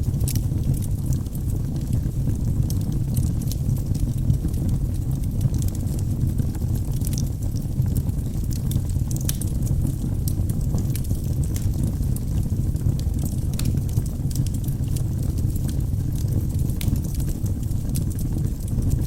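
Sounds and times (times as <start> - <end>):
flames rumbling: 0.0 - 19.0
logs crackling and popping: 0.0 - 19.0.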